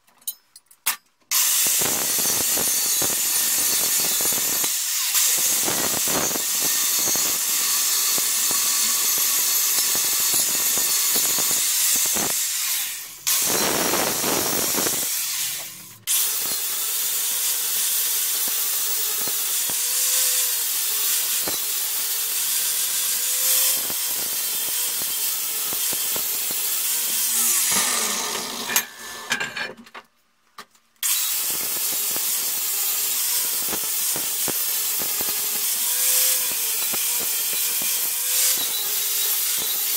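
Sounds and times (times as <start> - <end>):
angle grinder grinding steel: 1.3 - 29.8, 31.0 - 39.9.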